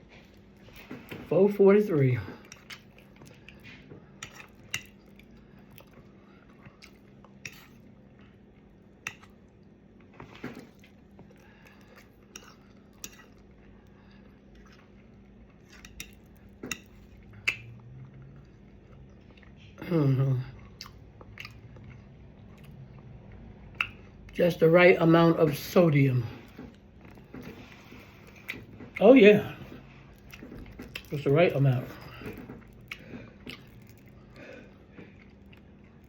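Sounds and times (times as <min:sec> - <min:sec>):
person chewing: 0:02.4 - 0:19.8, 0:20.5 - 0:24.4, 0:26.4 - 0:36.0.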